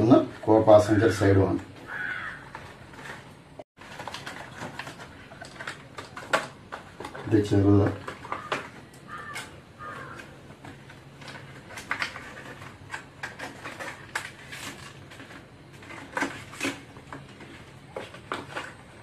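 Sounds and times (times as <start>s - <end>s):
packaging crinkling and rustling: 2.3s - 19.0s.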